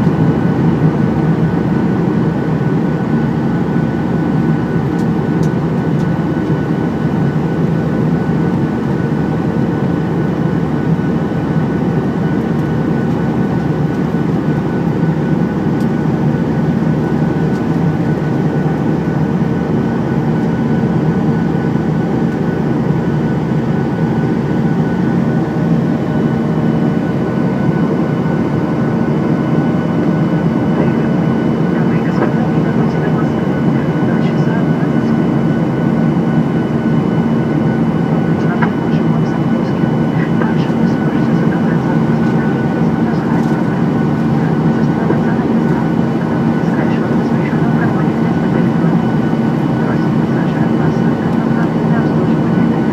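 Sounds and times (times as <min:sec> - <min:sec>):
aeroplane cabin drone: 0:00.0 - 0:52.9.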